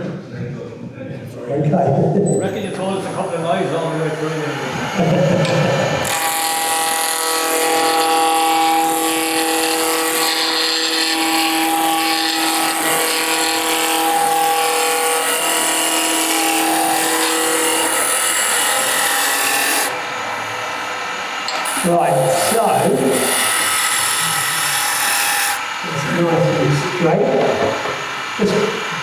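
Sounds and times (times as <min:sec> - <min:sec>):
wood lathe cutting: 0:02.5 - 0:29.0.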